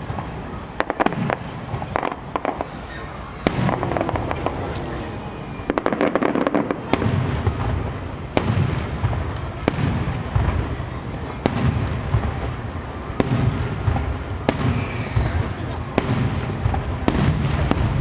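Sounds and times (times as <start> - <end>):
fireworks crackling pops: 0.0 - 18.0
fireworks sharp bangs: 0.0 - 18.0
low rumble of bursts and echo: 0.0 - 18.0.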